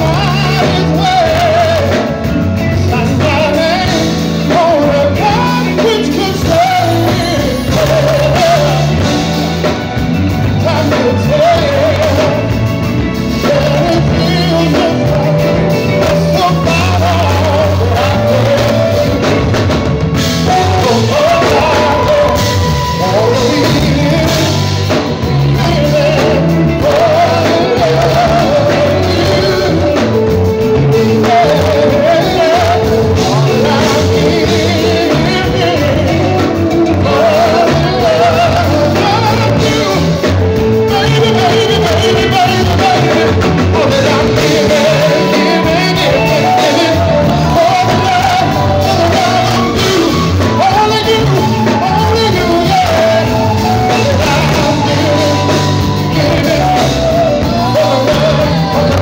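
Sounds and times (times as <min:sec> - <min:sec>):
live band playing: 0:00.0 - 0:59.0
man singing lead: 0:00.0 - 0:59.0.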